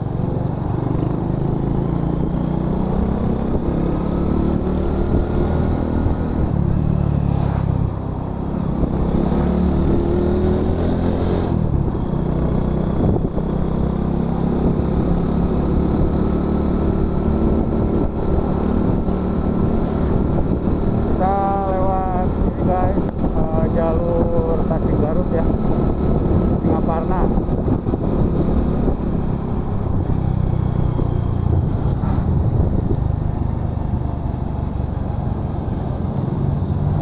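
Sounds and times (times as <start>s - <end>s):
motorcycle engine riding: 0.0s - 37.0s
wind rushing over microphone: 2.2s - 37.0s.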